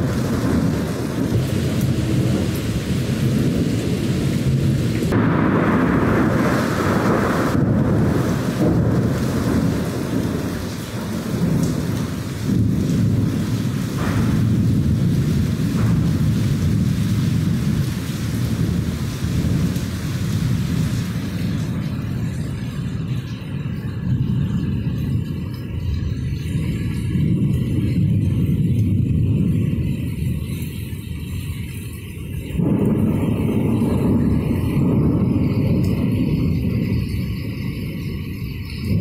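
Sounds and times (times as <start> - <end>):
heavy rain falling: 0.0 - 39.0
thunder rumbling: 0.0 - 39.0.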